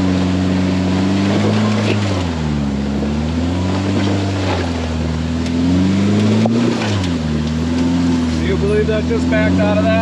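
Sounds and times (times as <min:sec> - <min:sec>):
engine revving: 0:00.0 - 0:10.0
tyre and trail noise: 0:00.0 - 0:10.0.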